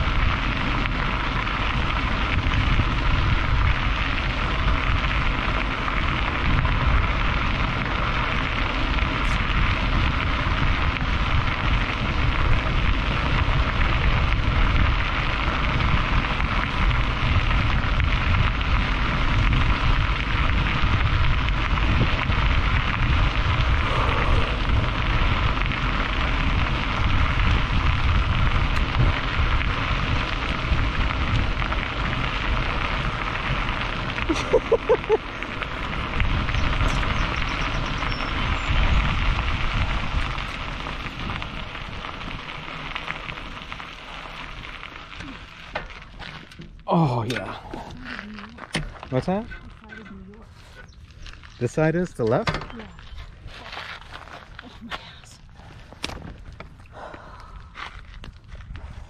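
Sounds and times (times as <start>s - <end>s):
low rumble: 0.0s - 59.0s
wind buffeting microphone: 0.0s - 59.0s.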